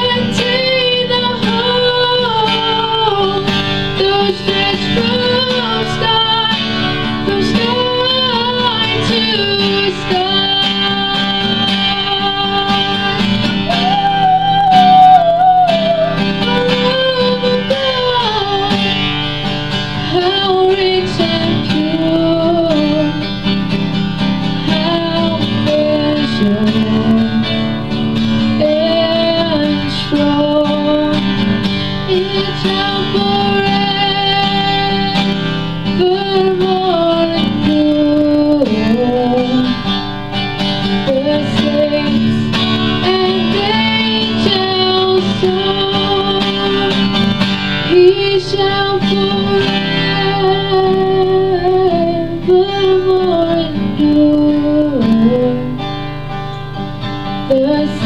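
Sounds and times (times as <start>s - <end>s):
woman singing a hymn: 0.0s - 19.0s, 20.0s - 23.3s, 24.6s - 27.6s, 28.6s - 31.4s, 32.0s - 40.0s, 40.9s - 55.8s, 57.5s - 58.0s
strummed acoustic guitar: 0.0s - 58.0s.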